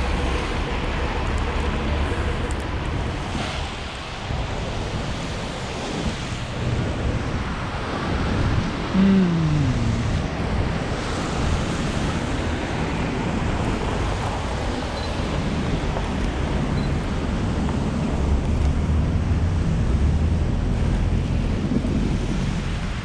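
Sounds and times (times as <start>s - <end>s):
blizzard wind buffeting microphone: 0.0s - 23.0s.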